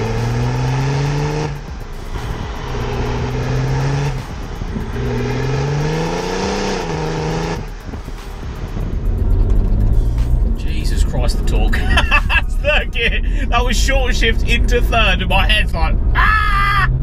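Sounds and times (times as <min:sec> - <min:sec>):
diesel engine accelerating hard: 0:00.0 - 0:17.0.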